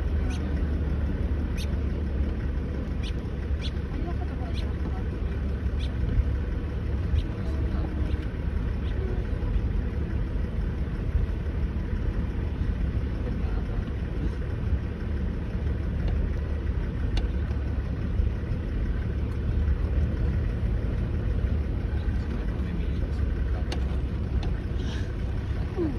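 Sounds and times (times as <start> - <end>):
vehicle rumbling over dirt track: 0.0 - 25.9.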